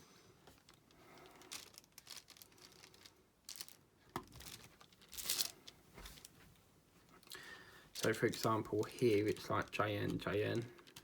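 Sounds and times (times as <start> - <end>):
plastic crinkling rustles: 0.4 - 11.0.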